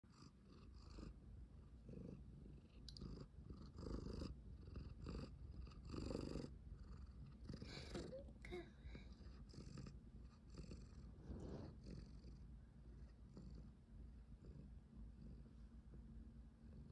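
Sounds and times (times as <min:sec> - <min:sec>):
cat purring: 0:00.1 - 0:16.9.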